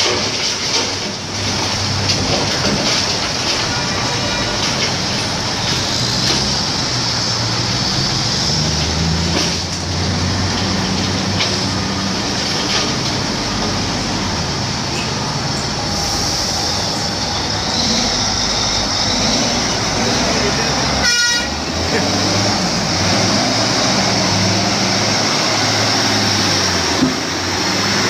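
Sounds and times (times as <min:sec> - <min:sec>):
heavy diesel engines under load: 0:00.0 - 0:28.0.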